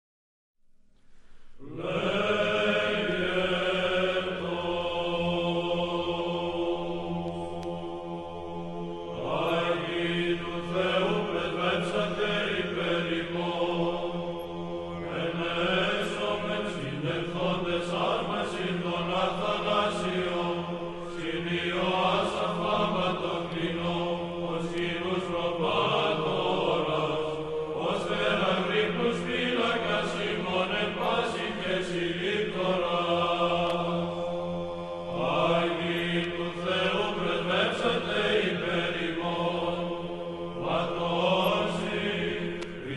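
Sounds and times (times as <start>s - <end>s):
voices chanting: 1.6s - 42.9s.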